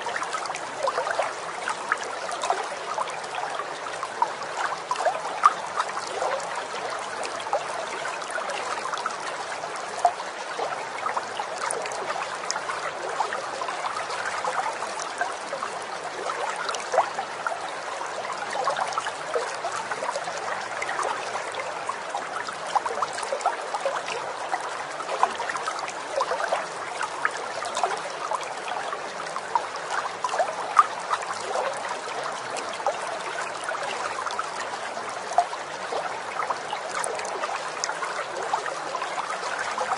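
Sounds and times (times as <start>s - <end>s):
running water trickling: 0.0s - 39.9s
water splashes and drips: 0.0s - 39.9s.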